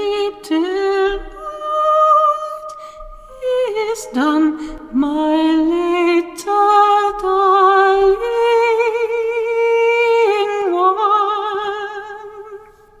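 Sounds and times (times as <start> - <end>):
woman singing a lullaby: 0.0 - 12.8.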